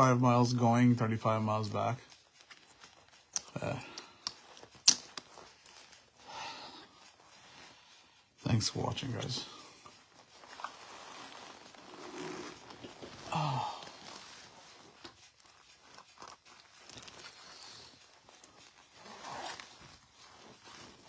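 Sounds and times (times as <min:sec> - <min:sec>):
leather jacket and helmet rustling: 0:00.2 - 0:21.0.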